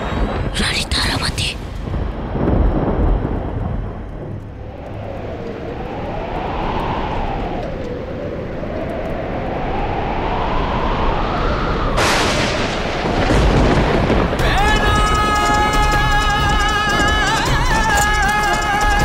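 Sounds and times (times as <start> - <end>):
howling wind: 0.0 - 19.0.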